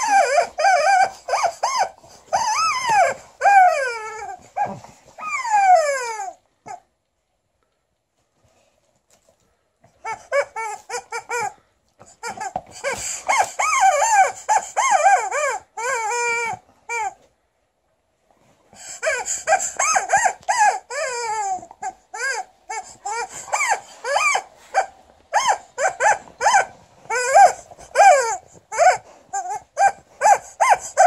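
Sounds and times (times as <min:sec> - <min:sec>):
squeaker toy squealing: 0:00.0 - 0:06.8, 0:10.0 - 0:17.2, 0:18.9 - 0:31.0.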